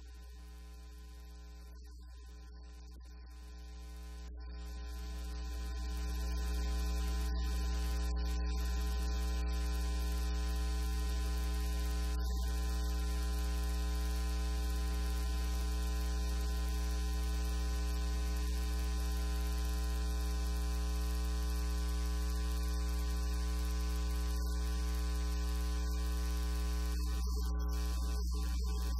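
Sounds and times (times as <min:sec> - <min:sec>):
electrical mains hum: 0:00.0 - 0:28.9.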